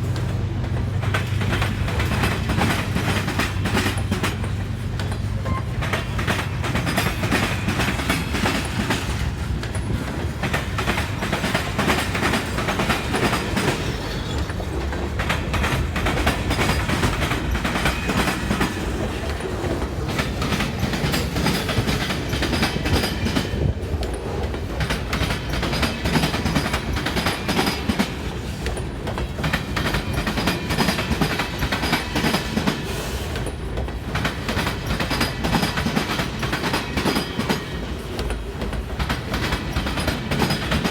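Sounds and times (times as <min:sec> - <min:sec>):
clicks and clanks of train cars: 0:00.0 - 0:40.9
train wheels clattering over rail joints: 0:00.0 - 0:40.9.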